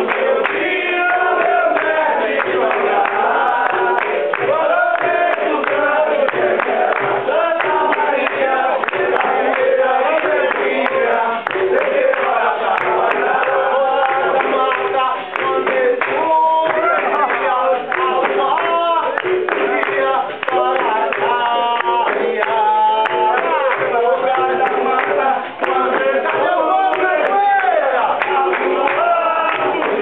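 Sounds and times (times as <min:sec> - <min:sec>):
group singing in chorus: 0:00.0 - 0:30.0
hand-clapping: 0:00.0 - 0:30.0.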